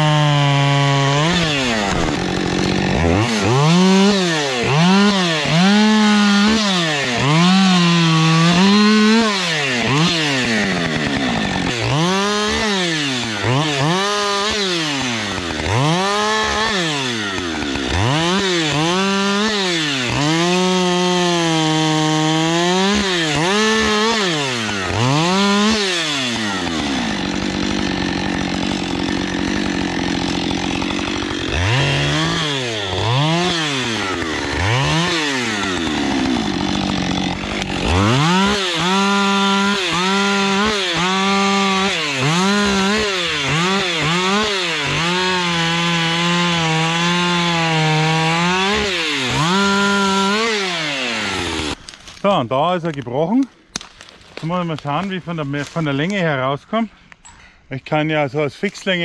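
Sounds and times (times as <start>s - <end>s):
chainsaw cutting wood revving: 0.0s - 53.0s.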